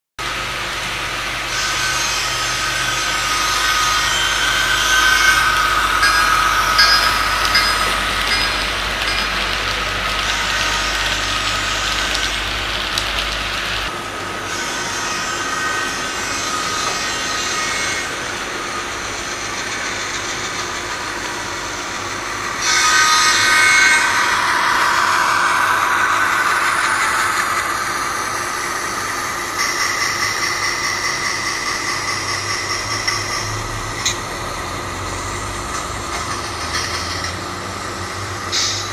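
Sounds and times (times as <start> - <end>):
model train diesel engine sound: 0.2 - 38.9.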